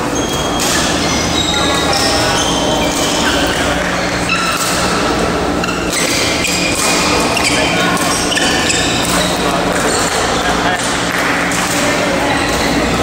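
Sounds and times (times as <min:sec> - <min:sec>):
court shoes squeaking: 0:00.0 - 0:13.0
indoor hall noise: 0:00.0 - 0:13.0
steady hum: 0:00.0 - 0:13.0.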